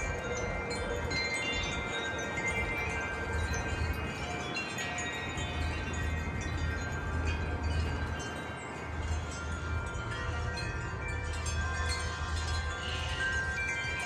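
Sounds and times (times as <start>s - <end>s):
gusty wind: 0.0s - 14.0s
metal wind chimes ringing: 0.0s - 14.0s.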